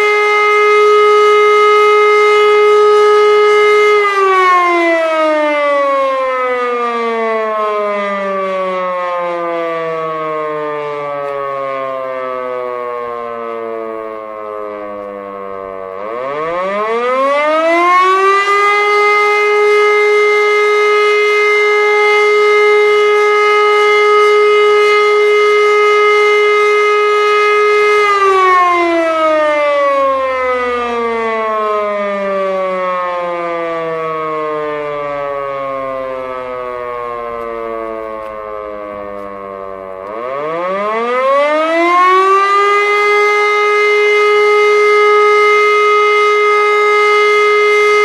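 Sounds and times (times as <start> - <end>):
civil defence siren winding: 0.0 - 48.0.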